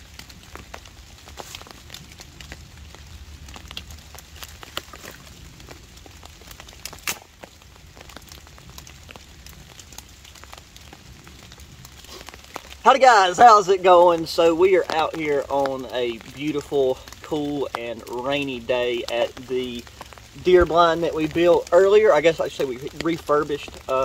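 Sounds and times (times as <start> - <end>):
rain pattering on canvas and leaves: 0.0 - 24.0
small fire crackling: 0.0 - 24.0.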